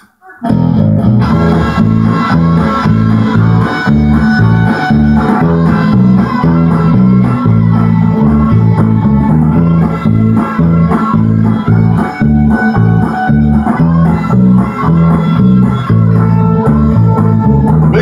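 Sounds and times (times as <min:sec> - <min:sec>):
electric bass guitar line: 0:00.4 - 0:18.0.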